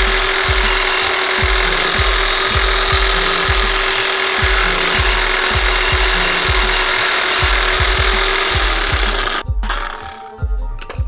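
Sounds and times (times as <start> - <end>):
air chisel hammering: 0.0 - 10.2
bass-heavy music beat: 0.0 - 11.0.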